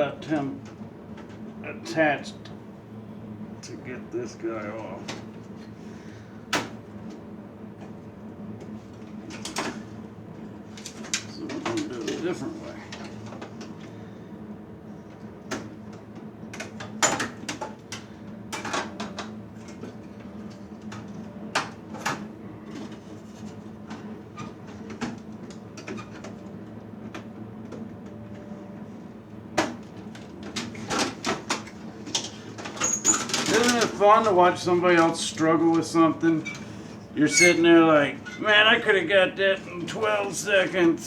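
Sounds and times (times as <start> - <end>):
steady low hum: 0.0 - 32.8, 33.4 - 41.0.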